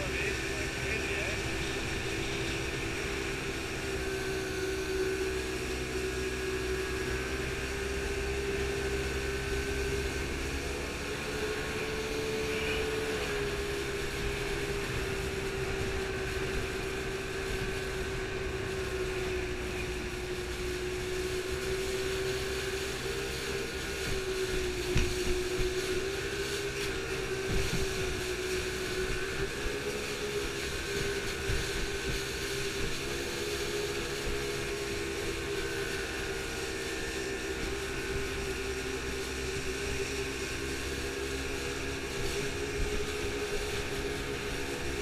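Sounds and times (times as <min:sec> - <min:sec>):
boat engine droning: 0:00.0 - 0:45.0
water rushing along hull: 0:00.0 - 0:45.0.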